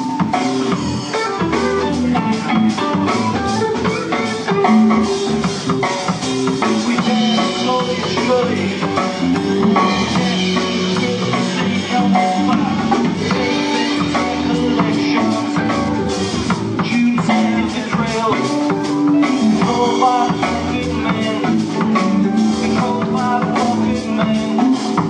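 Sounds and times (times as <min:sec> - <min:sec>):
drum kit steady beat: 0:00.0 - 0:25.0
electric guitar: 0:00.0 - 0:25.0.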